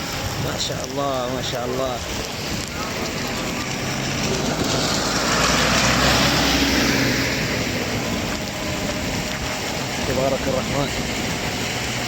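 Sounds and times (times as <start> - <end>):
heavy rain pouring: 0.0 - 12.0
thunder rumble: 0.0 - 12.0.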